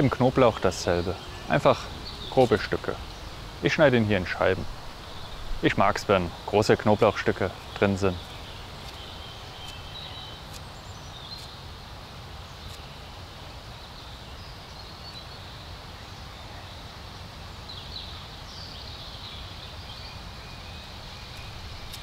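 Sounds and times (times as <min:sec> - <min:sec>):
outdoor hiss and low rumble: 0:00.0 - 0:22.0
small birds chirping: 0:00.0 - 0:22.0.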